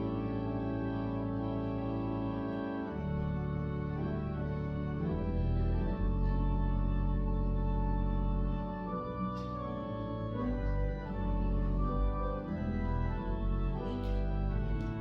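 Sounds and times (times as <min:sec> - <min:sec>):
slow keyboard chords: 0:00.0 - 0:15.0.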